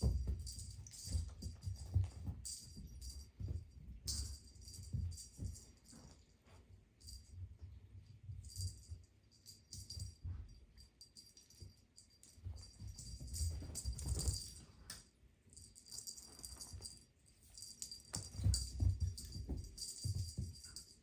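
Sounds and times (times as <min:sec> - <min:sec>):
cat toy jingling and rattling: 0:00.0 - 0:06.3, 0:08.0 - 0:14.9, 0:15.5 - 0:21.0.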